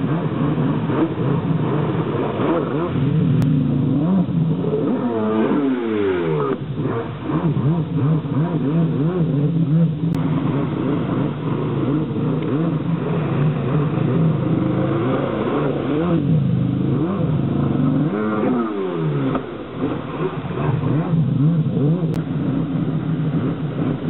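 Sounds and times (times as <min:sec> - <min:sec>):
jet ski engine revving: 0:00.0 - 0:24.0.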